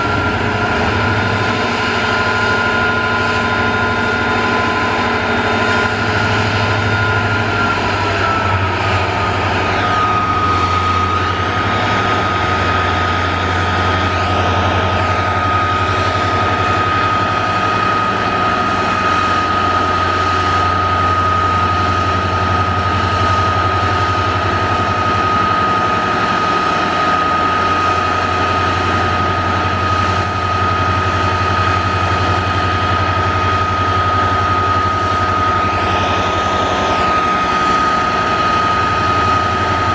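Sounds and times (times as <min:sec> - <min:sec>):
diesel locomotive engine drone: 0:00.0 - 0:39.9
high locomotive whine: 0:00.0 - 0:39.9.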